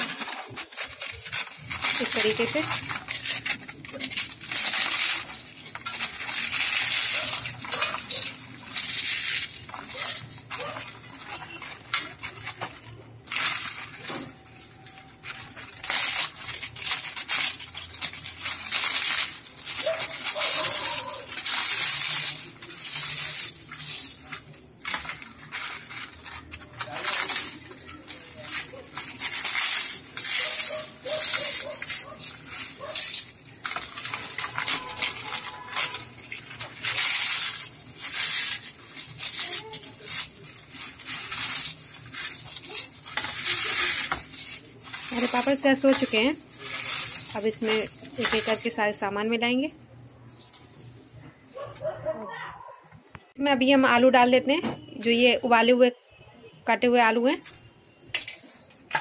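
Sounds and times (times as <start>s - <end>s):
crisp snacks crunching by hand: 0.0s - 49.0s
pieces clinking on steel plate: 0.0s - 49.6s, 57.4s - 59.0s.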